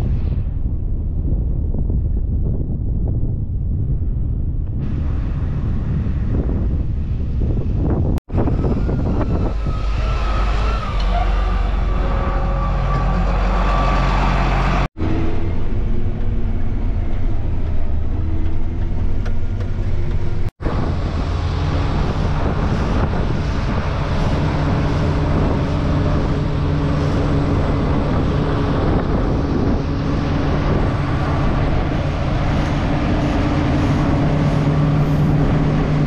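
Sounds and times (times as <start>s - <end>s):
diesel farm machinery droning: 4.7s - 36.0s.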